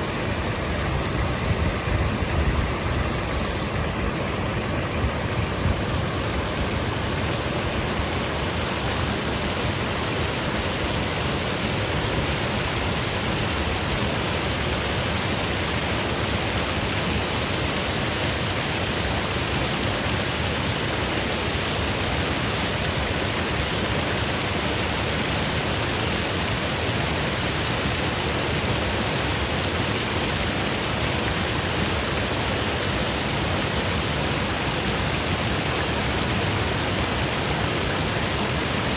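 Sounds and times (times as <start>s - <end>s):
creek water rushing over rocks: 0.0s - 38.9s.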